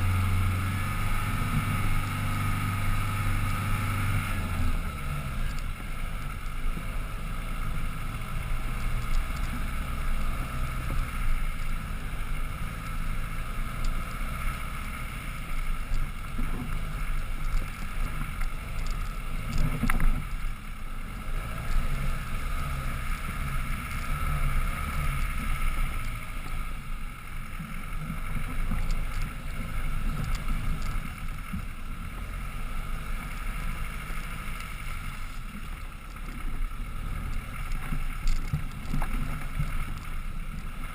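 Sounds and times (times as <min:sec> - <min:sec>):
vehicle engine running at low revs: 0:00.0 - 0:40.9.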